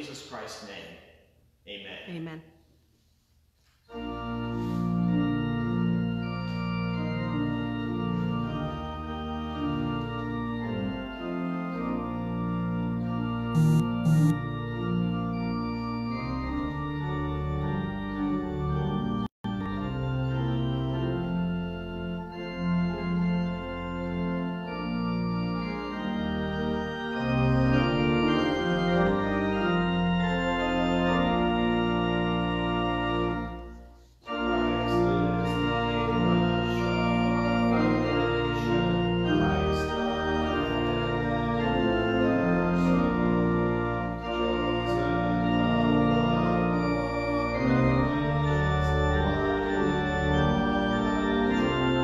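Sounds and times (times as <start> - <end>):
organ playing slow chords: 3.8 - 52.0.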